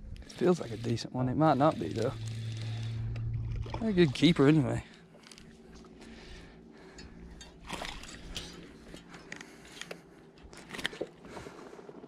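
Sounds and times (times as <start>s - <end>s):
faint steady hum: 0.0s - 12.0s
fishing gear clicking and scraping: 0.0s - 12.0s.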